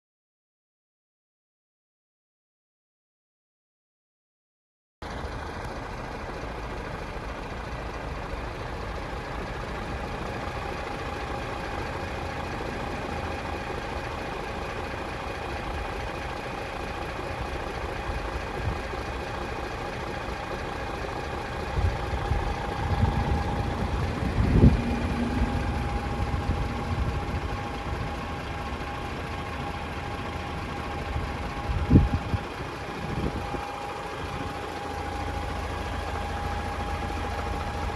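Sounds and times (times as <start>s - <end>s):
diesel engine idling: 5.0s - 37.9s.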